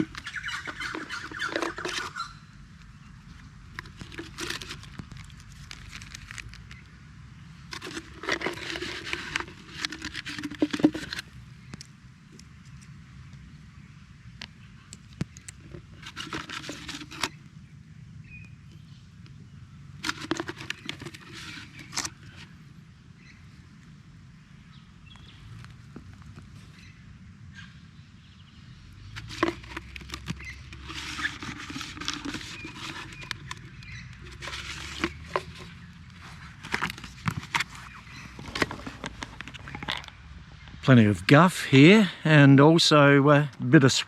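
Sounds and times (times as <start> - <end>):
dry leaves and twigs crackling: 0.0 - 13.5, 14.4 - 17.6, 19.2 - 24.0, 25.0 - 27.1, 29.0 - 40.9.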